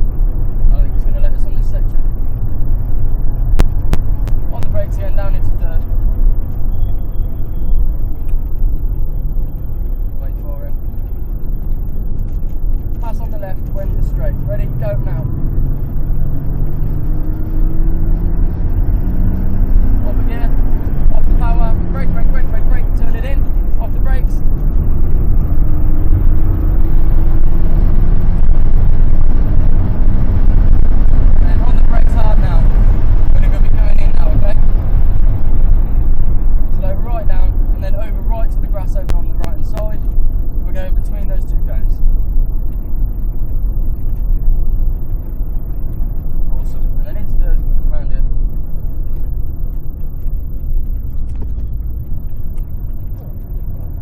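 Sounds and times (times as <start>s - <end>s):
car engine rumble: 0.0s - 54.0s
road noise: 0.0s - 54.0s.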